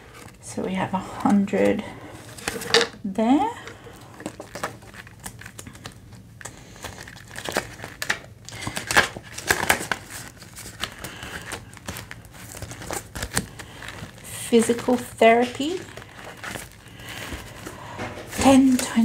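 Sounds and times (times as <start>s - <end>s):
plastic pockets crinkling: 0.0s - 19.0s.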